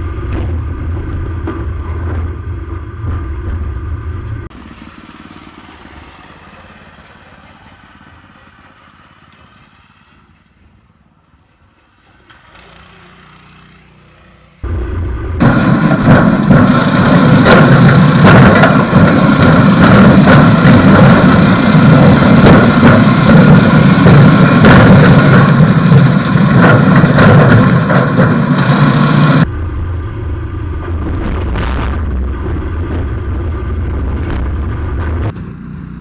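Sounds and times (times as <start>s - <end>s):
car engine running hard: 0.0s - 10.2s, 14.6s - 36.0s.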